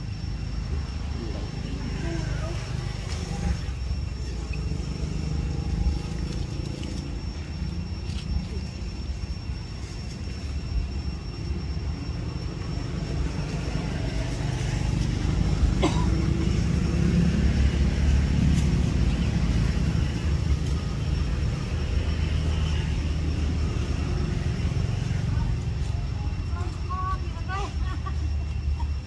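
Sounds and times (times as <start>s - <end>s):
distant traffic rumble: 0.0s - 29.0s
high-pitched whine: 0.0s - 29.0s.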